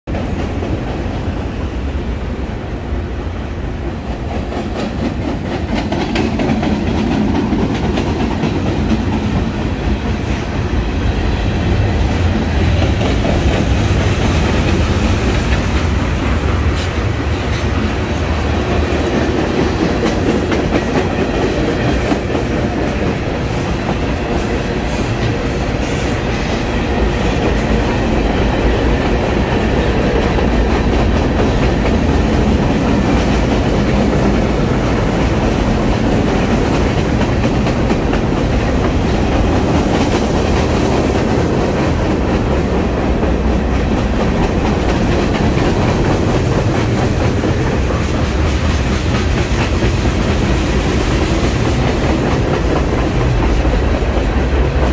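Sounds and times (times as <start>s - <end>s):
freight train rolling past: 0.1s - 54.9s.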